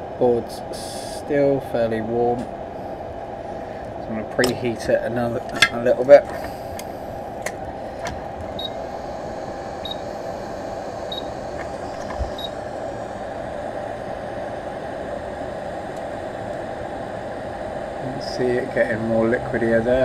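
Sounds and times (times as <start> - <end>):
hot air blower hissing: 0.0 - 20.0.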